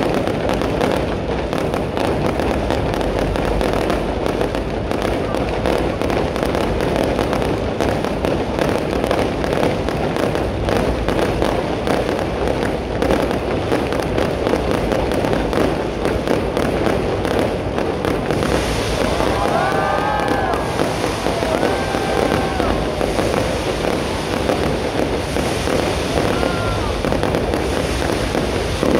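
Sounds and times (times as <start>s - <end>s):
fireworks bangs and crackling: 0.0s - 28.9s
fireworks whistling: 0.0s - 28.9s.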